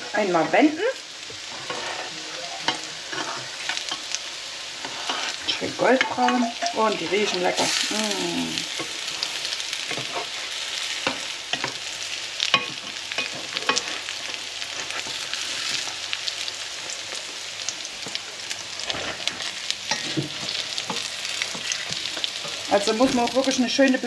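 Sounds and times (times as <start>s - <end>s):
patties sizzling in a frying pan: 0.0s - 24.0s.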